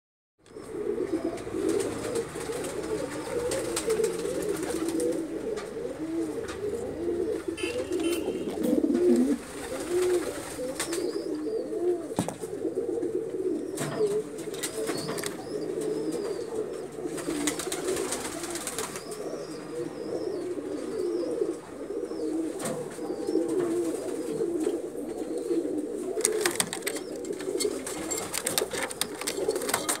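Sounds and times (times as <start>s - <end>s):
pigeons cooing: 0.4s - 30.0s.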